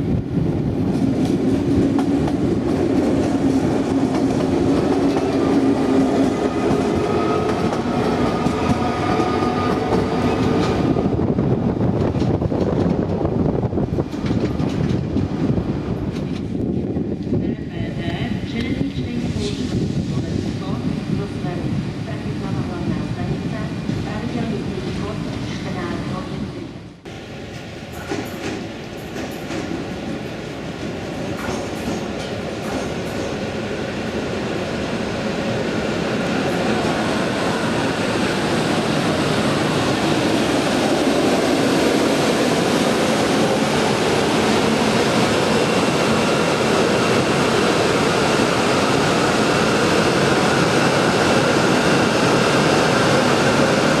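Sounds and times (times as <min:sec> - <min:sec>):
train rolling past: 0:00.0 - 0:54.0.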